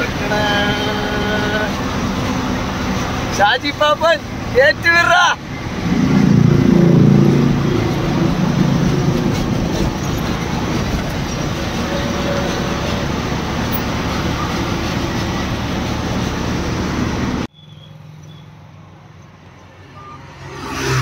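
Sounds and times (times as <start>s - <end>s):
passing truck rumble: 0.0s - 21.0s
road and wind noise: 0.0s - 21.0s
truck diesel engine drone: 0.0s - 21.0s.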